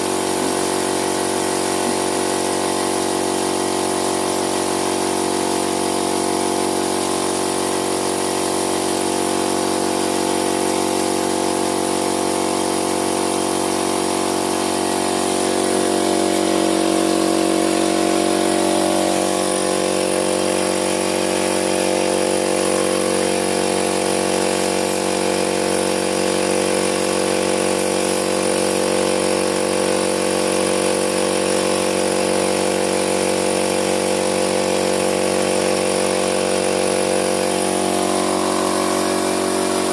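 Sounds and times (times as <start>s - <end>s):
motor running: 0.0s - 39.9s.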